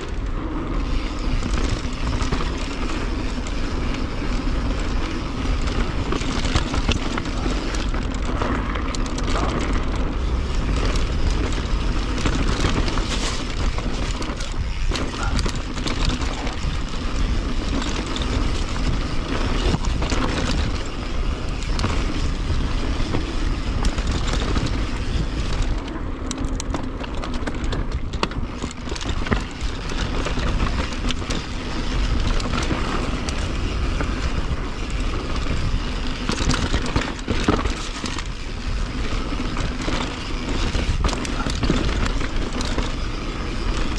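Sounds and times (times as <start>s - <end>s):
bike knocks and rattles: 0.0s - 43.9s
bike tyre noise: 0.0s - 43.9s.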